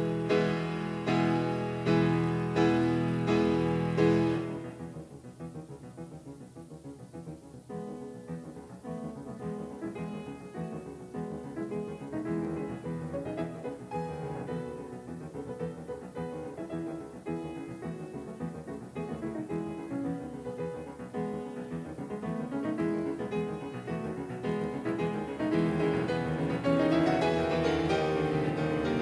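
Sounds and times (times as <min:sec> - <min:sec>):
piano background music: 0:00.0 - 0:29.0.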